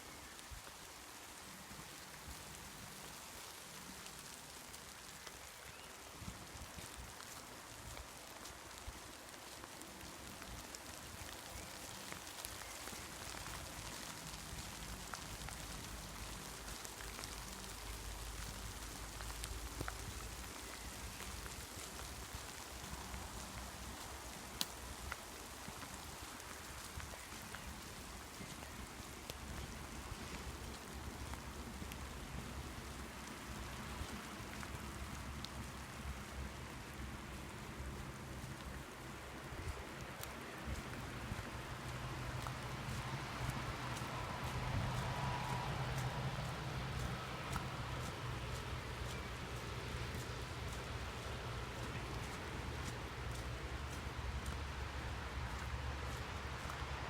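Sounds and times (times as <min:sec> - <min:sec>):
light rain pattering: 0:00.0 - 0:57.0
single raindrops: 0:00.1 - 0:57.0.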